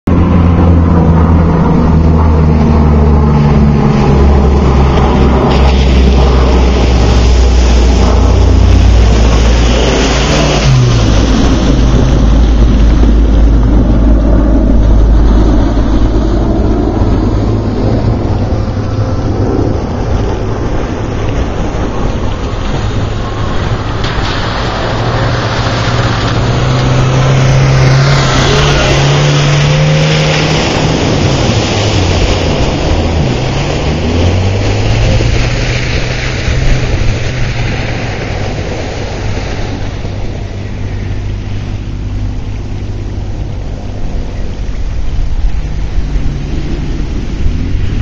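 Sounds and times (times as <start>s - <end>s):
engine revving: 0.0s - 48.0s
water splashing: 0.0s - 48.0s.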